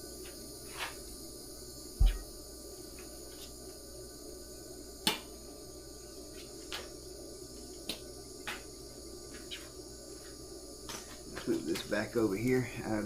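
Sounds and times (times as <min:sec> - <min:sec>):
crickets and insects chirring: 0:00.0 - 0:13.0.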